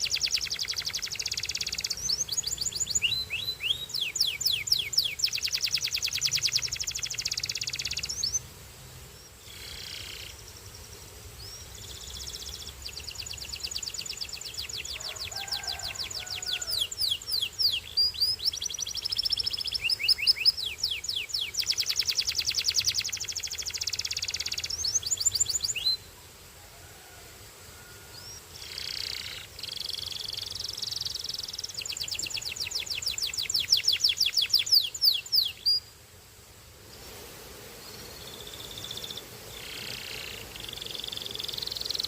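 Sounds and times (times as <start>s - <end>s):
canary singing trills: 0.0s - 8.4s, 9.4s - 10.5s, 11.4s - 26.1s, 28.2s - 35.9s, 38.3s - 42.0s.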